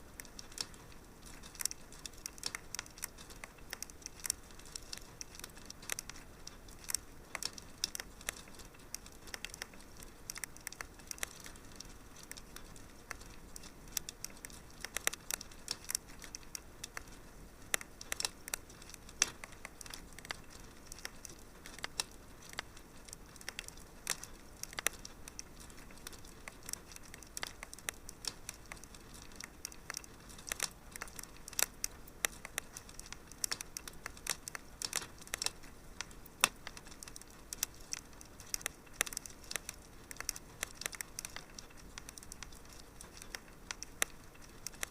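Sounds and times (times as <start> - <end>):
fire crackling in a fireplace: 0.0 - 44.9.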